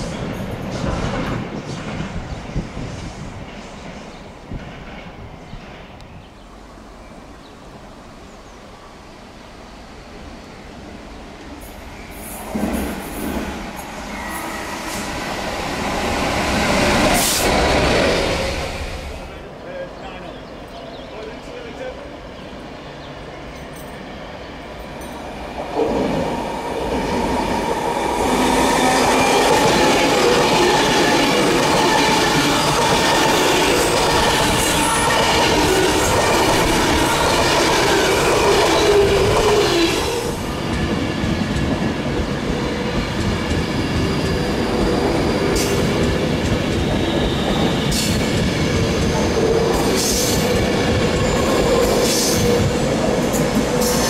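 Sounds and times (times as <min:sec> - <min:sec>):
diesel train approaching: 0:00.0 - 0:54.0
electric train passing: 0:00.0 - 0:54.0.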